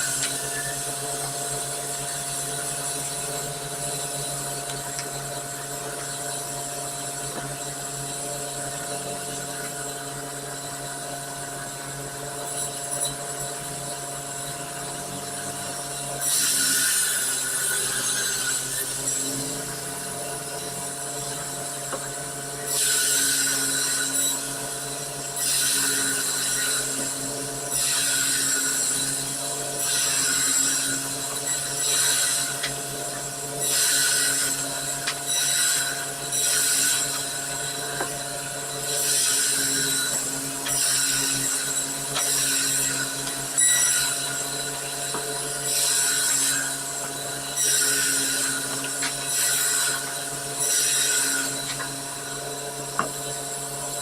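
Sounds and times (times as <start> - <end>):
chainsaw cutting wood: 0.0 - 9.9, 15.1 - 54.0.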